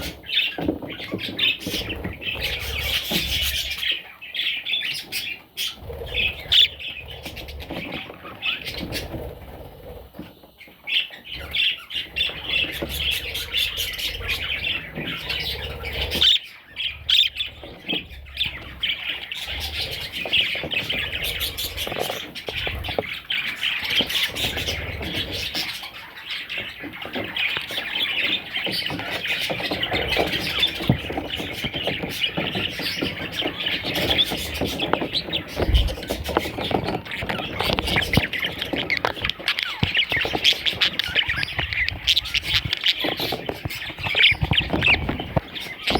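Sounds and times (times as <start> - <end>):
budgerigars chattering and squawking: 0.0 - 45.9.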